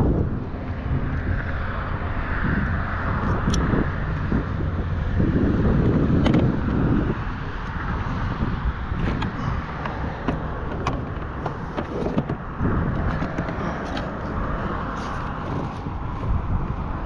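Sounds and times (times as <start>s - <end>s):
gusty wind on microphone: 0.0s - 17.0s.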